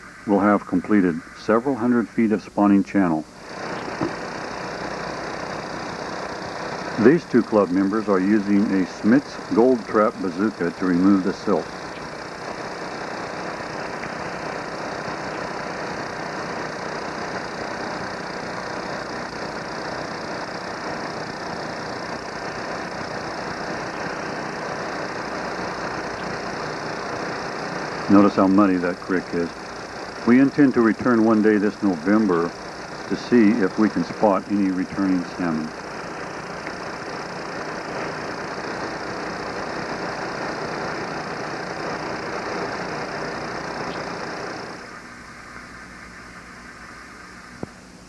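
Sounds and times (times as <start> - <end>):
small engine and pump running: 0.0 - 48.0.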